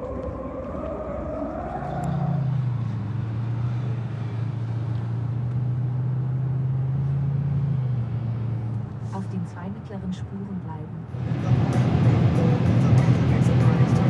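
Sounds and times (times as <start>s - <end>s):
car engine drone and road noise: 0.0s - 14.0s
outdoor noise: 0.0s - 14.0s.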